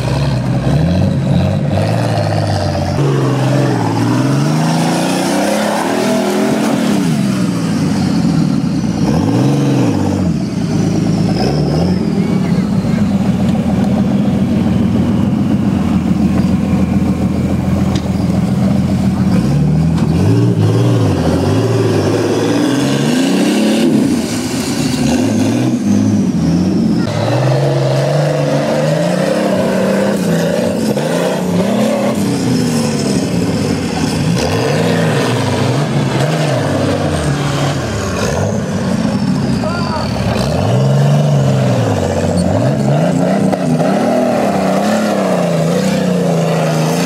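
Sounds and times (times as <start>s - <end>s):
off-road vehicle engines revving: 0.0s - 47.0s.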